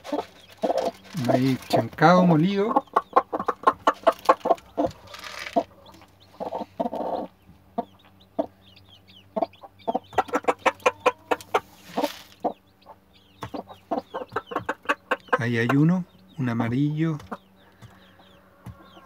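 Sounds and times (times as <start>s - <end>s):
faint chicks peeping: 0.0s - 19.0s
hen clucking: 0.0s - 19.0s.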